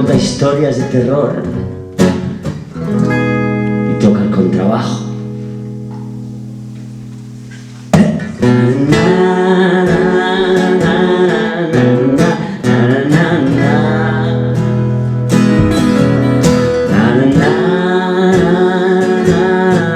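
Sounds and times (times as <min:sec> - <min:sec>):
acoustic guitar strumming chords: 0:00.0 - 0:19.9.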